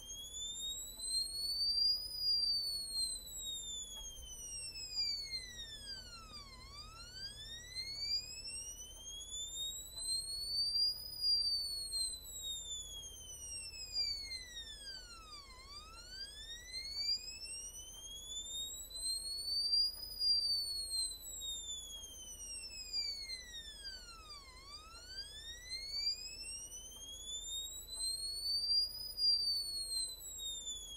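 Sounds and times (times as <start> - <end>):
sine tone sweeping in pitch: 0.0 - 30.9.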